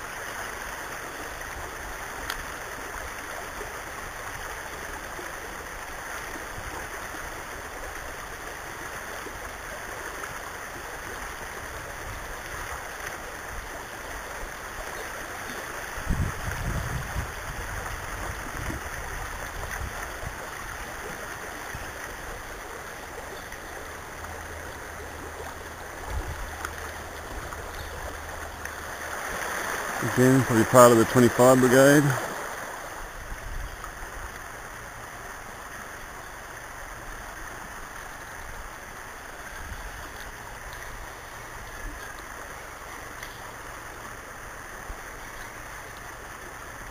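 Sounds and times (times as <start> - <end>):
river water flowing: 0.0 - 46.9.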